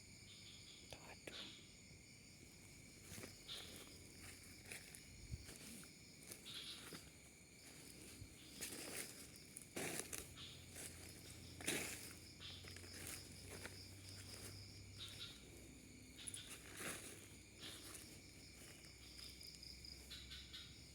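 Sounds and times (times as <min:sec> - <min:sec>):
insects: 0:00.0 - 0:20.9
footsteps crunching through undergrowth: 0:02.6 - 0:20.2.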